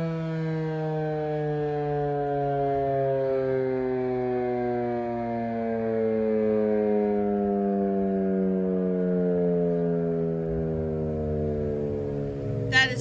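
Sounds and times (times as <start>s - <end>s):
fire siren winding down: 0.0s - 13.0s.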